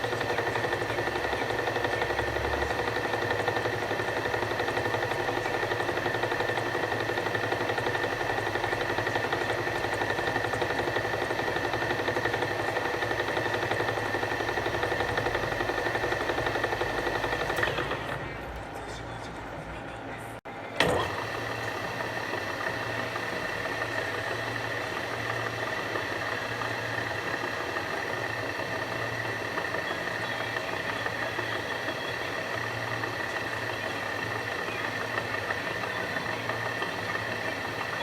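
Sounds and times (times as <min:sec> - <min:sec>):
milling machine whine: 0:00.0 - 0:38.0.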